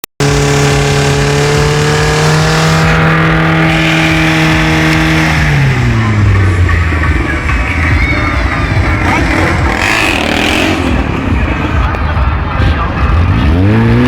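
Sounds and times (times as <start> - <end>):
car engine at high revs: 0.2 - 14.0.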